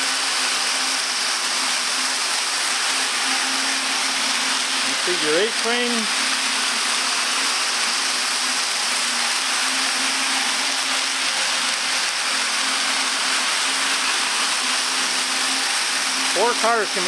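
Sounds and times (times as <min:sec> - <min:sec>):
electric toy motors whirring: 0:00.0 - 0:17.0.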